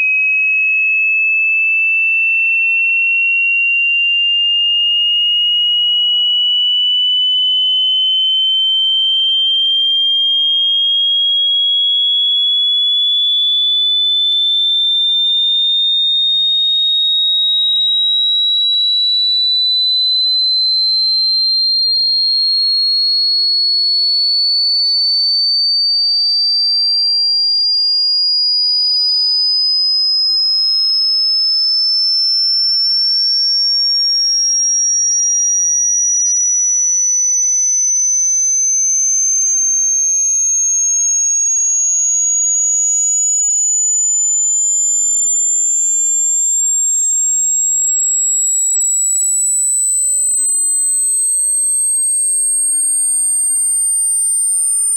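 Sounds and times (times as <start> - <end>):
sine tone sweeping upward: 3.6 - 54.9.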